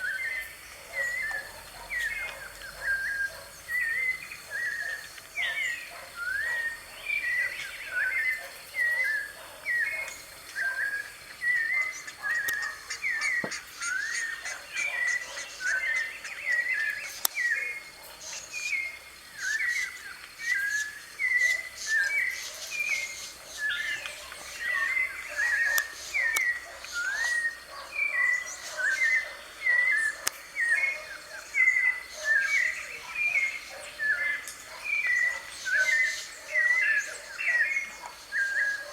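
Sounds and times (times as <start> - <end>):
thrush whistling song: 0.0 - 38.9.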